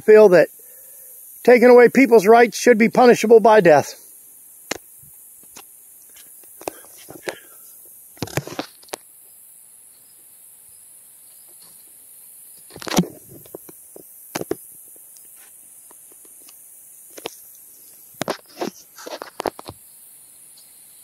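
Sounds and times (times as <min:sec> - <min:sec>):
insects hissing: 0:00.0 - 0:21.0.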